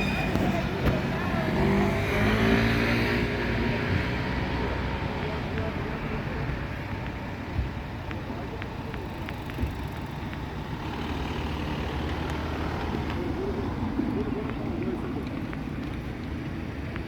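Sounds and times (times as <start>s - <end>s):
tram rumbling: 0.0s - 17.0s.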